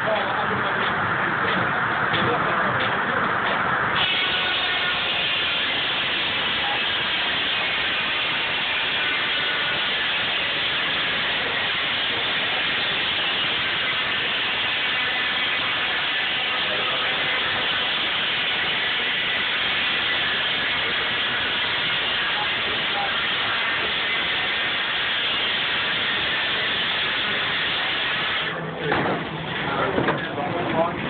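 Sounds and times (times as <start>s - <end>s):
sawmill machinery rushing noise: 0.0s - 31.0s.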